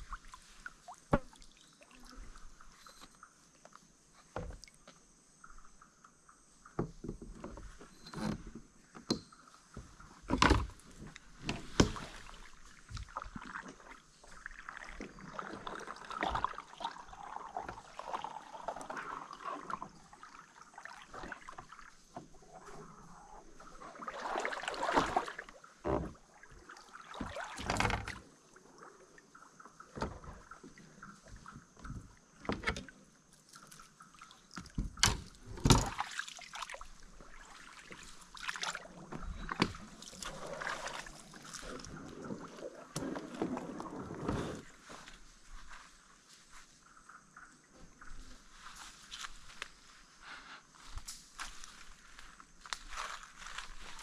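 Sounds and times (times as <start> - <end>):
paddle swishing through water: 0.0 - 3.6, 9.5 - 54.0.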